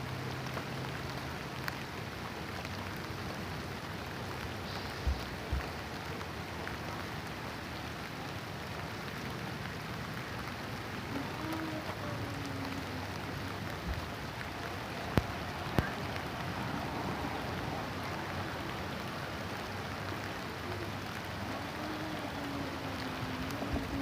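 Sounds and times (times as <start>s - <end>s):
gentle rain falling: 0.0s - 24.0s.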